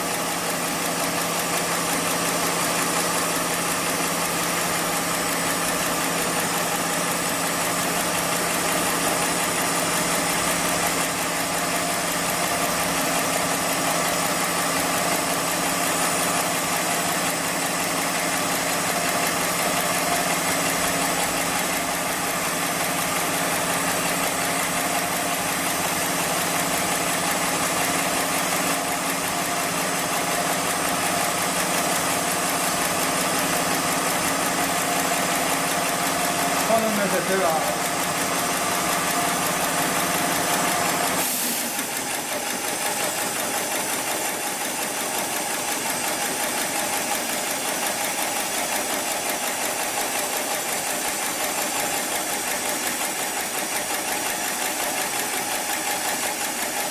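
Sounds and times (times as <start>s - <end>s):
sewing machine hum and clatter: 0.0s - 56.9s.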